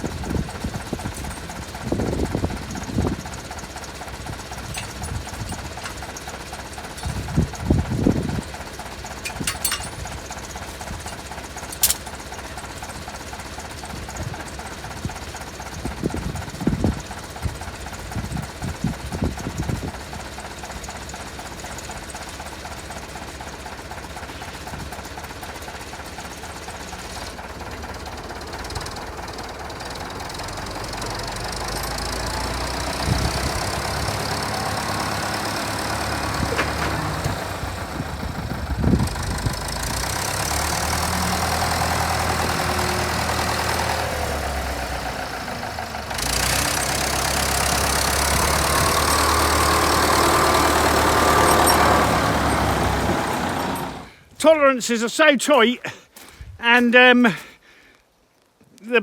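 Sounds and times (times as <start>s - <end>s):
tractor engine running: 0.0s - 57.5s.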